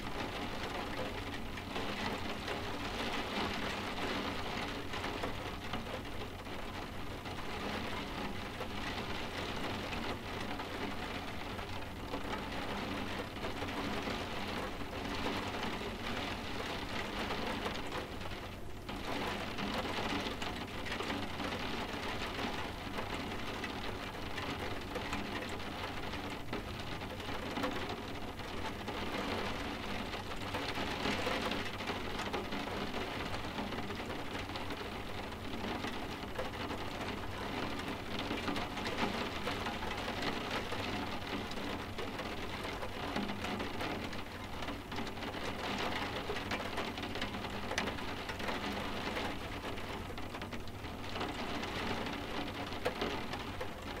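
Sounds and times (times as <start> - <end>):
rain tapping on window glass: 0.0 - 54.0.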